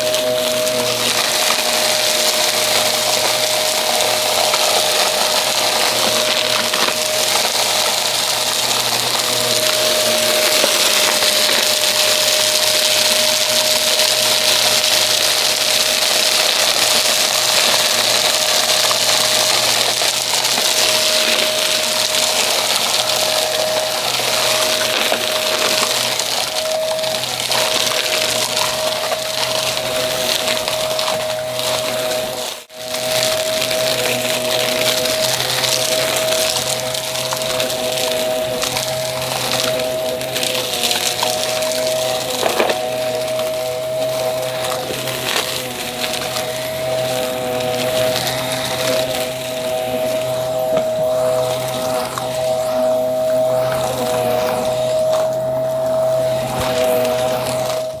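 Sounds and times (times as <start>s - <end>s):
debris crackling through vacuum: 0.0s - 58.0s
vacuum cleaner motor whine: 0.0s - 58.0s.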